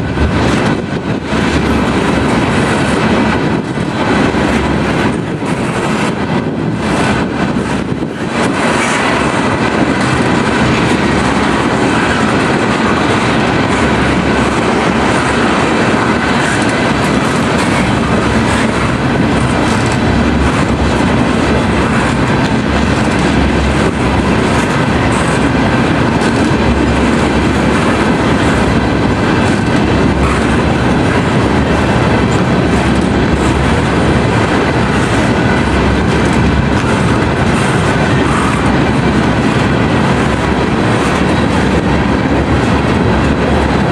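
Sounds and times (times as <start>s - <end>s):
freight train rumbling past: 0.0s - 43.9s
train wheels clicking over rail joints: 0.0s - 43.9s.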